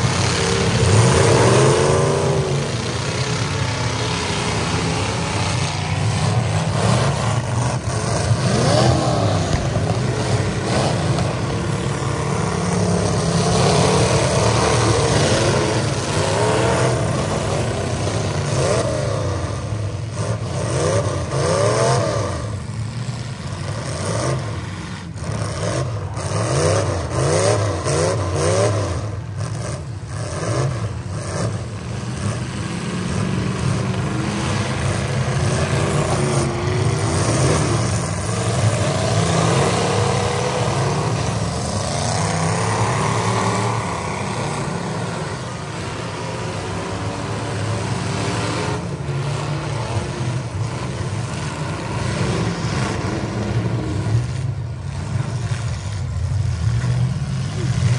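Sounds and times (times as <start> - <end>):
truck engines revving: 0.0 - 57.9.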